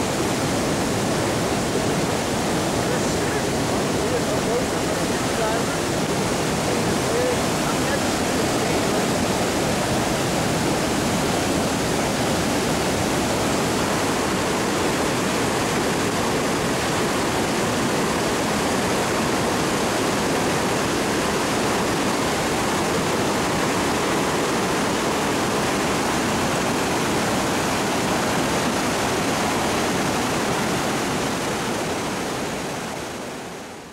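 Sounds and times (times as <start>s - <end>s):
water rushing through rapids: 0.0s - 33.9s.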